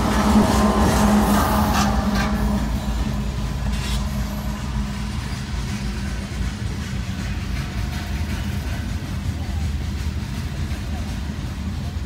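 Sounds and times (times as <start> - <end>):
diesel locomotive engines rumbling: 0.0 - 12.0.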